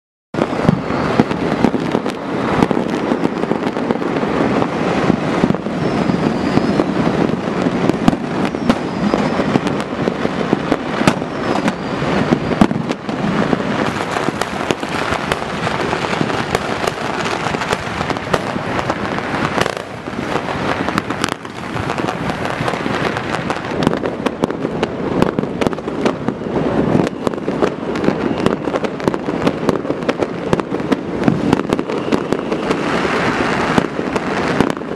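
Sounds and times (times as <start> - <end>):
fireworks crackling and popping: 0.4 - 34.9.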